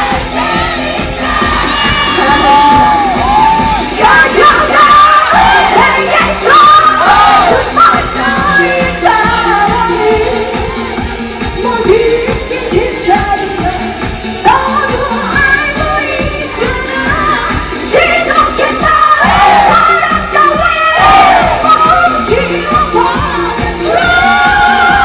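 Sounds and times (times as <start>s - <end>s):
steady drum beat: 0.0s - 25.0s
woman singing: 0.0s - 25.0s.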